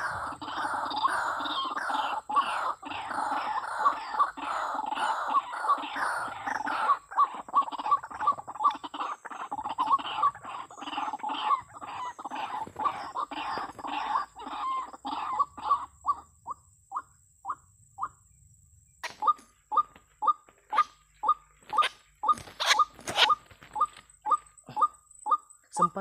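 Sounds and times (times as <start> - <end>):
waterhen croaking calls: 0.0 - 18.2, 19.0 - 26.0.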